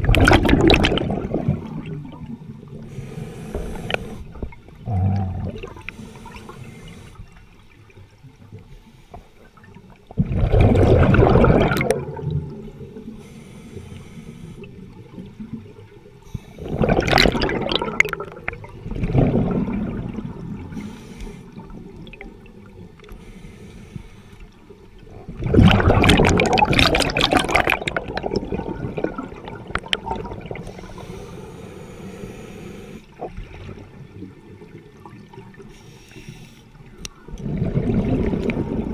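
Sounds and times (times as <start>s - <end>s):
exhaled bubbles gurgling underwater: 0.0s - 38.9s
quiet watery noise: 0.0s - 38.9s.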